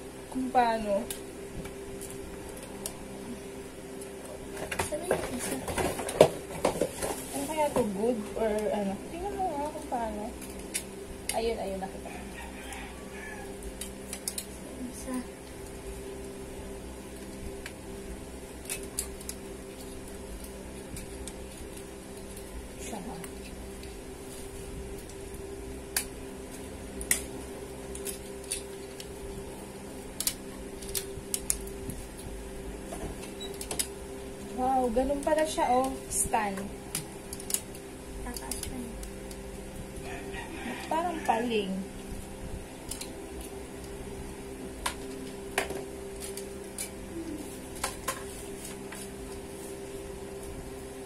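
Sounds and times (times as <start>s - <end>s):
steady background hum: 0.0s - 51.0s.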